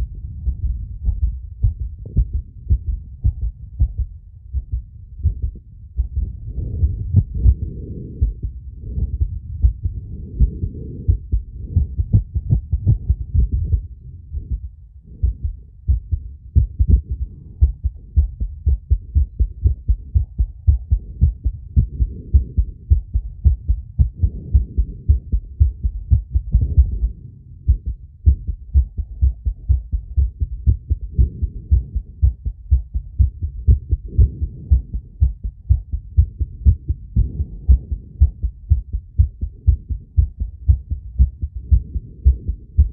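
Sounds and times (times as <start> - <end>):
fast heartbeat thuds: 0.0 - 42.9.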